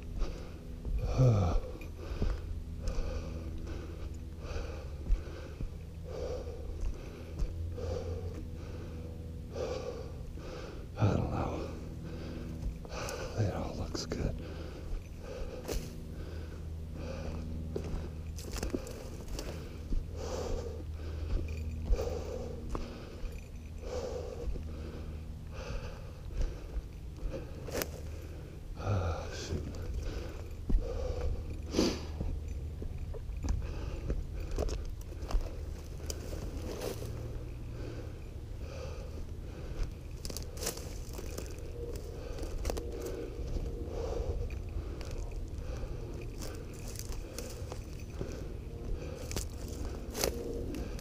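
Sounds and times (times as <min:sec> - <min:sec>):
man breathing hard: 0:00.0 - 0:51.0
steady low rumble: 0:00.0 - 0:51.0.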